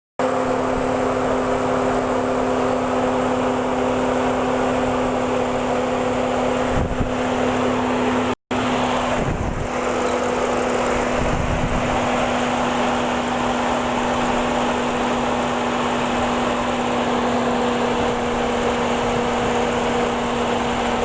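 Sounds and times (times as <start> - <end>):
car engine idling with misfire: 0.2 - 21.0.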